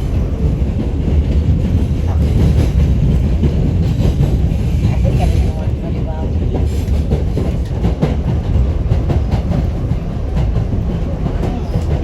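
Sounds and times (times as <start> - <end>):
subway train rumble: 0.0 - 12.0
wheels clacking over rail joints: 0.0 - 12.0.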